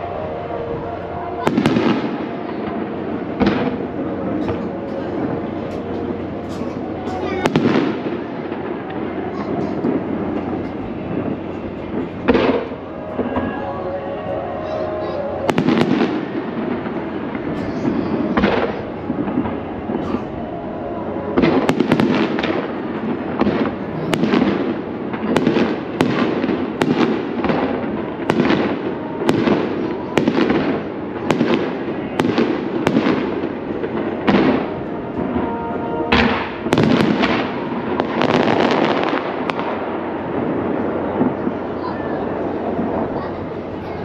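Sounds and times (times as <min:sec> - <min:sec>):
steady background noise: 0:00.0 - 0:44.0.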